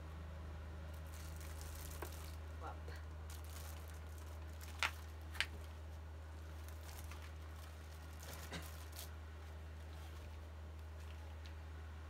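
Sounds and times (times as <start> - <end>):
plastic package crinkling: 0.9 - 11.6
sharp plastic crackles: 0.9 - 11.6.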